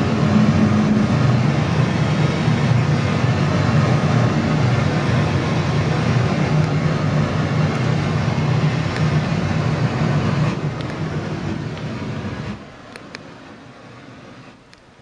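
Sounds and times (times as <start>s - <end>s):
dense rumbling drone music: 0.0s - 14.4s.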